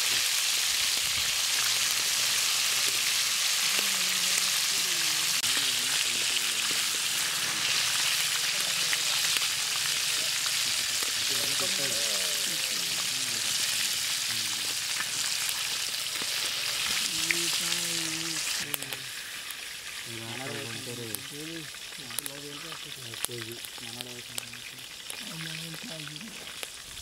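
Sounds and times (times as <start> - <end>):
oil sizzling while deep-frying: 0.0 - 27.0.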